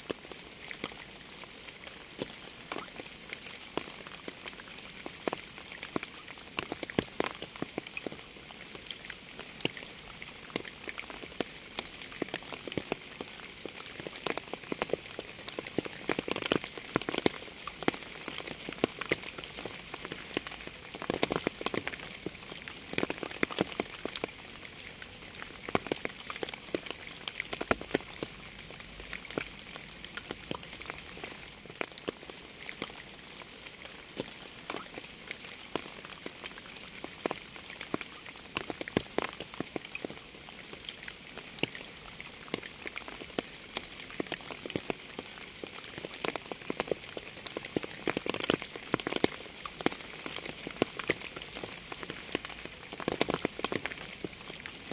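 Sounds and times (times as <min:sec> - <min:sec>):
raindrops tapping on a surface: 0:00.0 - 0:54.9.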